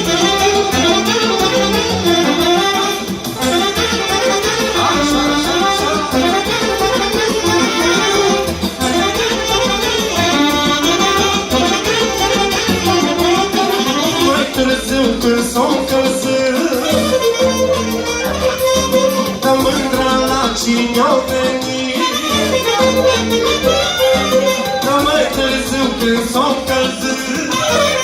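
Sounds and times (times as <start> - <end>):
instrumental folk music: 0.0 - 28.0.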